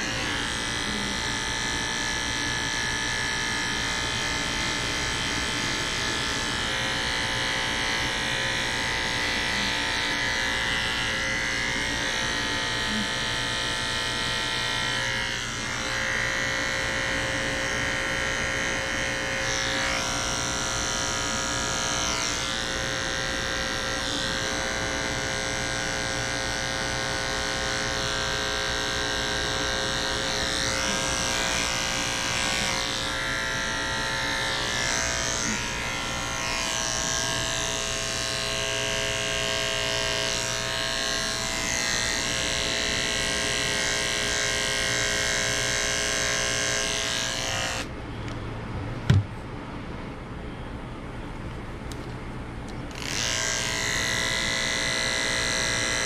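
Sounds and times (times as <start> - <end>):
electric clippers buzzing: 0.0 - 47.9, 49.1 - 49.3, 52.9 - 56.0.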